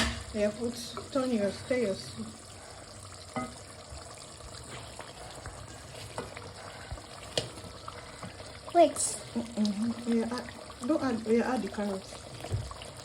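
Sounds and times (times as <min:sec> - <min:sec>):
stew sizzling in a pot: 0:00.0 - 0:13.0.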